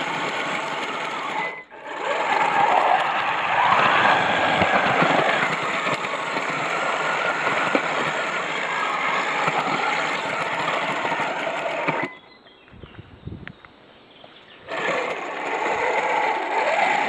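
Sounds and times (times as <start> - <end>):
tracked toy vehicle clattering: 0.0 - 12.3, 14.7 - 17.0.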